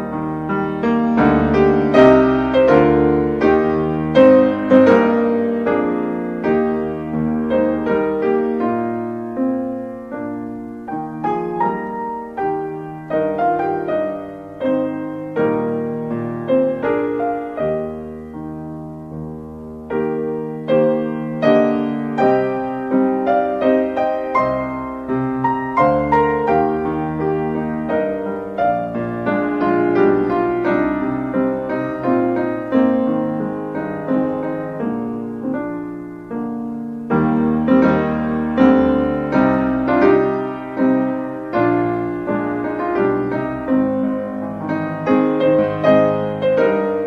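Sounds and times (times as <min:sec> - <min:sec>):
piano playing slow hymn: 0:00.0 - 0:47.0.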